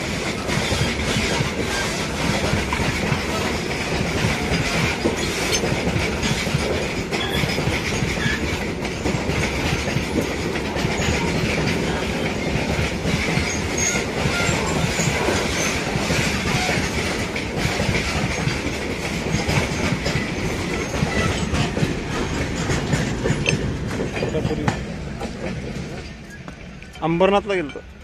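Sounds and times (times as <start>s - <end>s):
train wheels clacking on rails: 0.0s - 28.0s.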